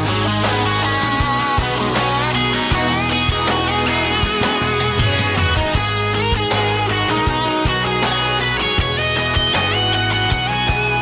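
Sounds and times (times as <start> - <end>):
guitar lines: 0.0 - 11.0
steady drum beat: 0.0 - 11.0.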